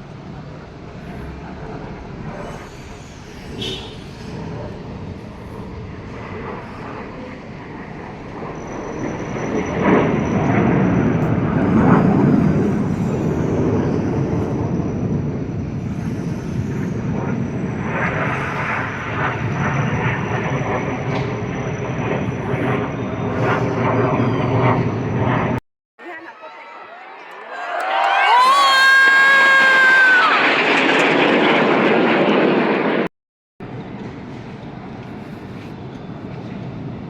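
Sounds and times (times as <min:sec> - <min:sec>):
jet aircraft roaring overhead: 0:00.0 - 0:25.6, 0:28.3 - 0:37.0.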